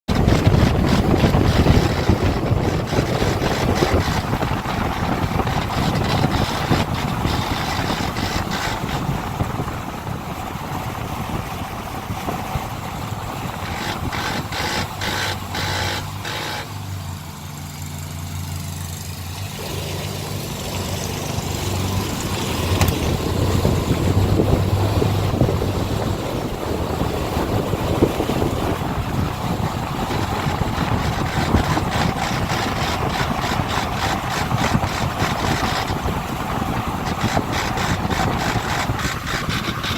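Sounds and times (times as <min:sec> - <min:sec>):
vehicle rumble and road noise: 0:00.0 - 0:39.9.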